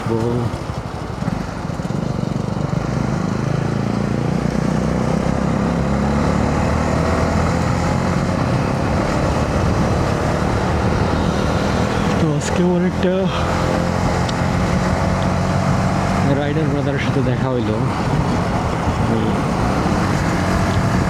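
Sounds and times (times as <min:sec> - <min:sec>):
motorcycle engine running: 0:00.0 - 0:21.0
road and air noise: 0:00.0 - 0:21.0.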